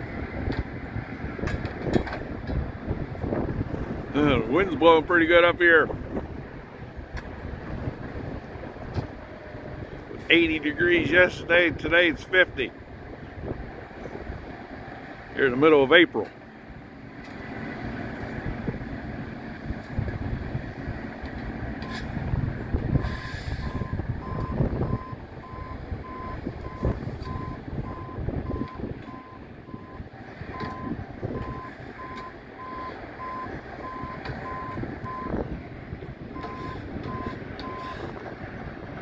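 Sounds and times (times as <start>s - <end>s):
low wind rumble: 0.0s - 39.0s.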